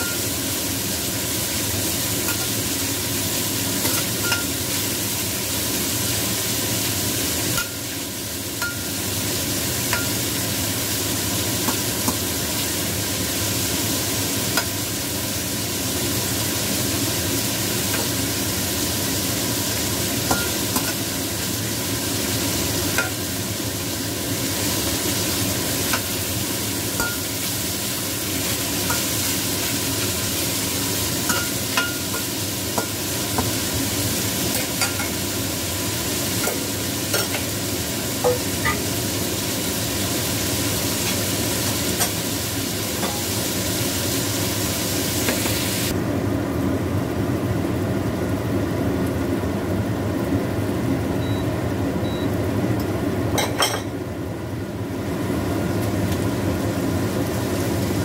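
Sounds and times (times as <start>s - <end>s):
chicken sizzling in oil: 0.0s - 58.0s.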